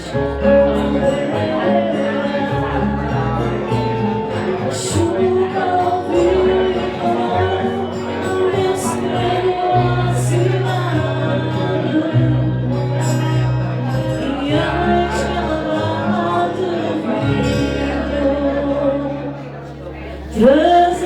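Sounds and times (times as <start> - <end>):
person singing: 0.0 - 19.4, 20.3 - 21.0
instrumental accompaniment with bass: 0.0 - 21.0.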